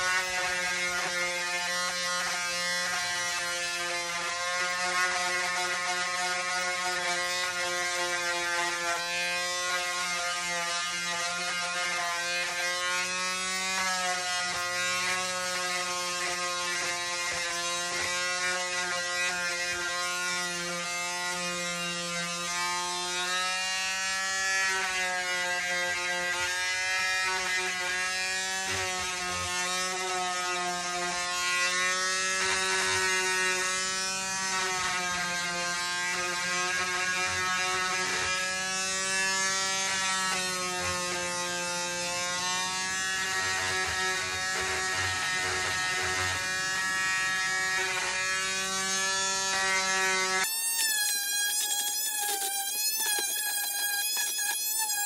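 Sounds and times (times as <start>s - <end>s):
small motor buzzing hum: 0.0s - 55.0s.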